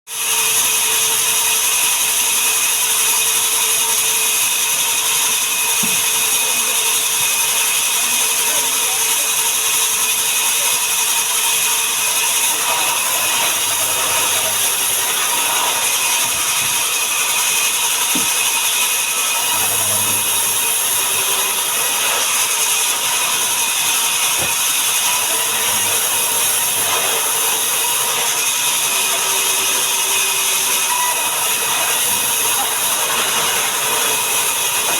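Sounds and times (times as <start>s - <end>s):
sawmill machinery running: 0.1s - 34.9s.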